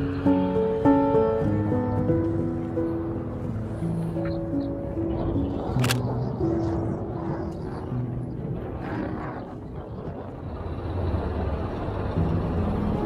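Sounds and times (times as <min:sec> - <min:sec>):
bus engine: 0:00.0 - 0:13.0
low traffic rumble: 0:00.0 - 0:13.0.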